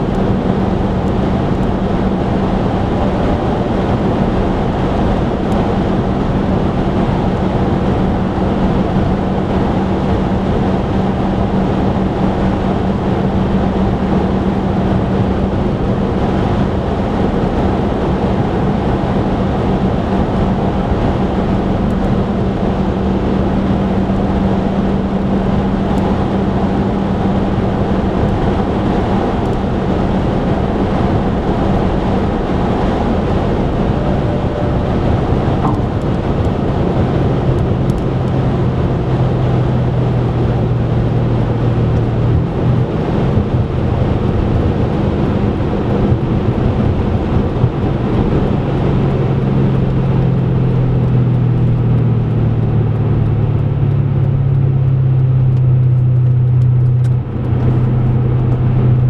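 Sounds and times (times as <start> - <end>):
low engine drone: 0.0 - 59.0
tyre and wind noise: 0.0 - 59.0.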